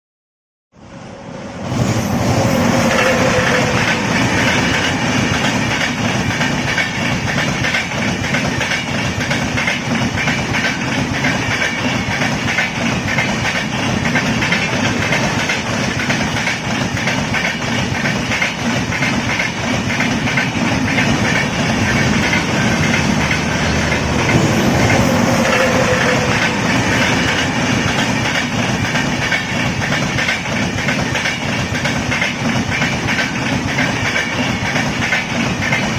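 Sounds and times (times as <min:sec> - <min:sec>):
train rumbling on rails: 0:00.8 - 0:35.9
wheels clacking over rail joints: 0:02.8 - 0:35.9.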